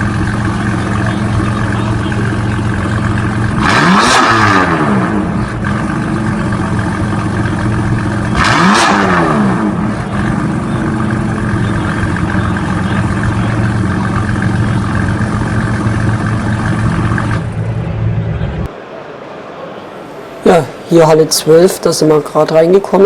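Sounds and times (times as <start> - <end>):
car engine idling and revving: 0.0 - 18.7.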